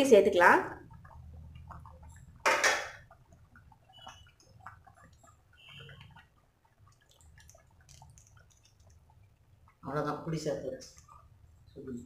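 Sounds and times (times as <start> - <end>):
pan of stew boiling: 0.0 - 11.6.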